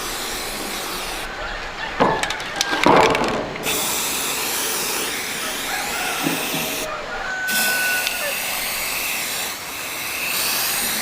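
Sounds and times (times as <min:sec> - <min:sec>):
steady hiss: 0:00.0 - 0:01.4, 0:02.1 - 0:11.0.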